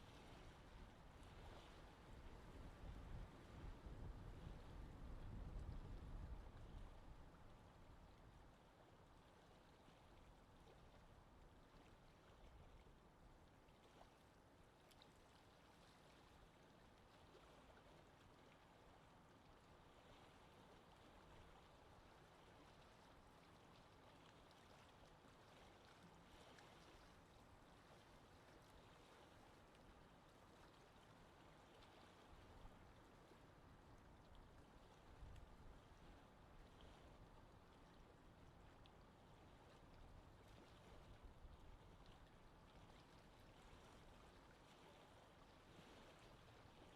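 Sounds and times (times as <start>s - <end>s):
soft wash of lake water: 0.0s - 46.9s.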